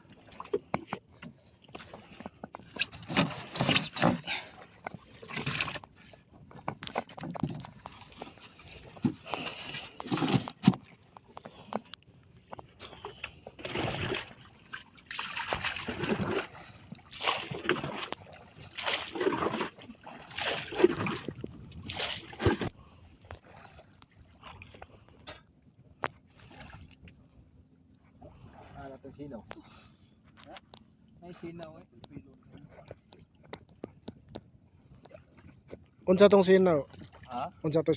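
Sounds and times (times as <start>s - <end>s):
water sloshing against boat: 0.0s - 37.9s.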